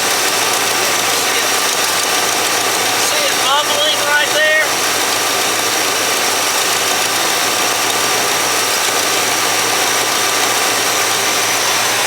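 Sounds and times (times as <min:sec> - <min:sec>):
exhaust leak rushing: 0:00.0 - 0:12.0.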